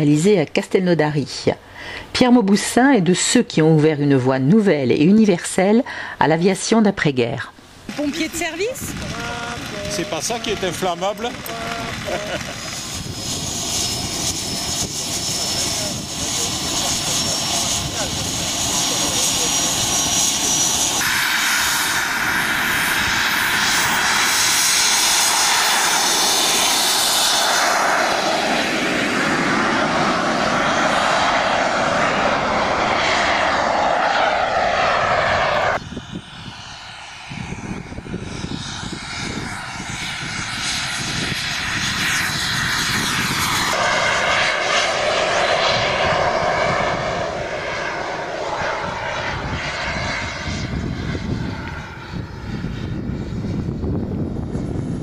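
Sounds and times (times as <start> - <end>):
model jet turbine whine: 7.6 - 55.0.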